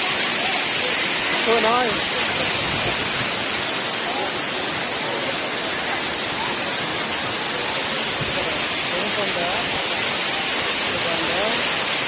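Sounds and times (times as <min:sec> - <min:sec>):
faint distant voices: 0:00.0 - 0:12.0
waterfall rushing: 0:00.0 - 0:12.0.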